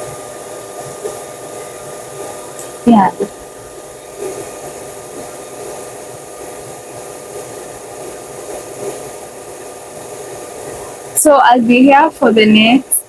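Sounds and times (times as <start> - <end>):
hair dryer blowing air: 0.0 - 11.3.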